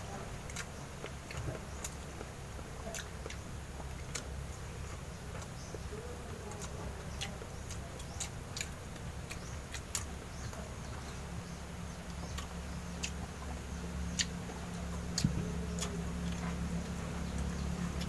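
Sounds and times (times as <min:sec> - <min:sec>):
people chewing and lip smacking: 0:00.0 - 0:18.0
steady low hum: 0:00.0 - 0:18.0.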